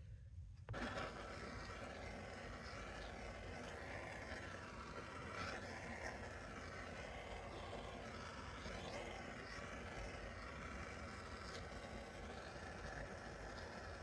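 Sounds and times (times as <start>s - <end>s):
heat gun blowing: 0.7s - 14.0s.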